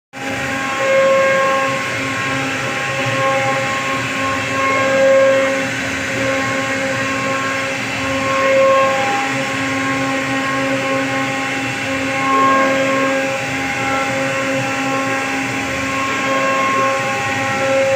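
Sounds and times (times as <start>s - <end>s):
router spindle whine: 0.2s - 17.9s.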